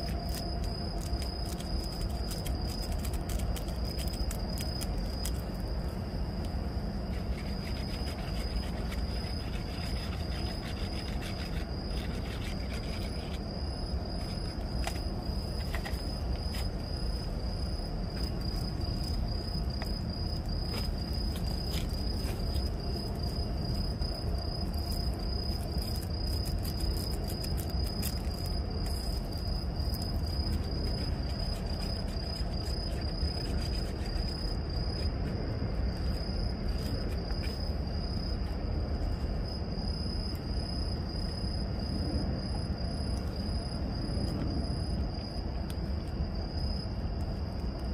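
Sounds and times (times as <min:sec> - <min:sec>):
cricket chirping: 0:00.0 - 0:47.9
steady low rumble: 0:00.0 - 0:47.9.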